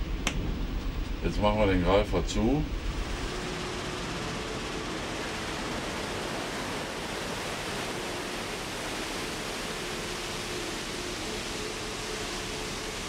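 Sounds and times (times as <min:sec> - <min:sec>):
faint machinery hum: 0:00.0 - 0:13.0.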